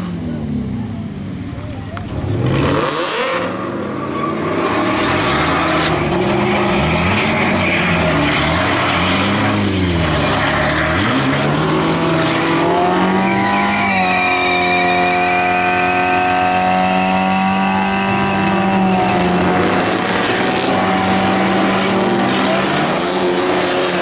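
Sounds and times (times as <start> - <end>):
car engine revving: 2.0 - 24.0
tyres screeching: 3.9 - 24.0.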